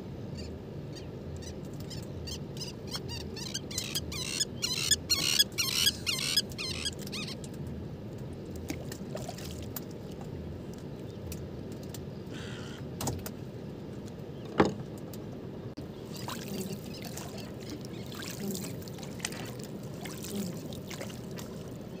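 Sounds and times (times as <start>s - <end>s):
water rumbling around boat: 0.0s - 22.0s.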